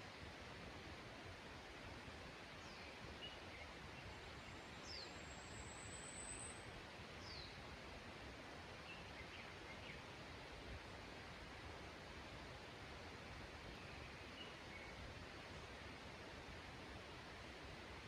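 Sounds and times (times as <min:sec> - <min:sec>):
soft steady hiss: 0:00.0 - 0:18.0.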